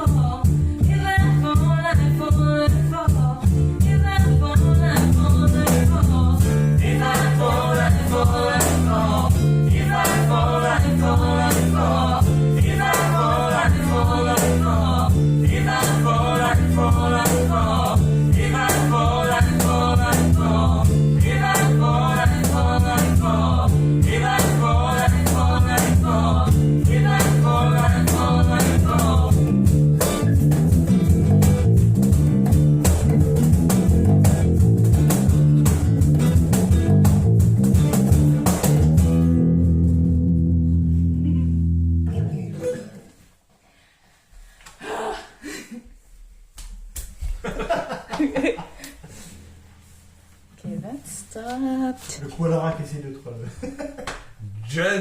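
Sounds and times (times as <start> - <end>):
acoustic guitar: 0.0 - 43.5, 48.6 - 53.0
bass: 0.0 - 43.6, 48.4 - 55.0.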